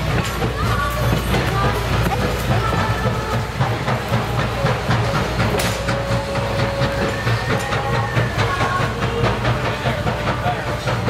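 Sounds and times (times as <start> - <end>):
train wheels rumbling on rails: 0.0 - 11.0
wheels ticking over rail joints: 0.0 - 11.0.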